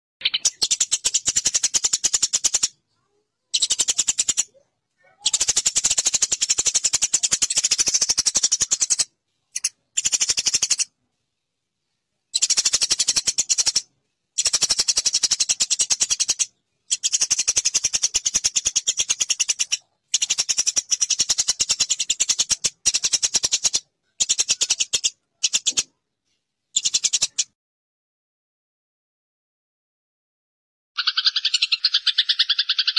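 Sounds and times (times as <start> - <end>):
sparrows chirping rapidly: 0.2 - 10.9, 12.3 - 25.9, 26.7 - 27.5, 31.0 - 32.9.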